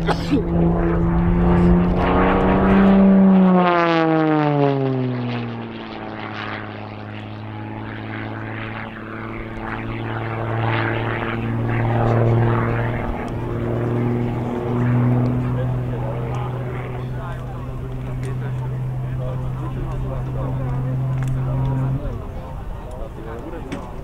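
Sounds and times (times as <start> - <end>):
propeller plane flying overhead: 0.0 - 24.0.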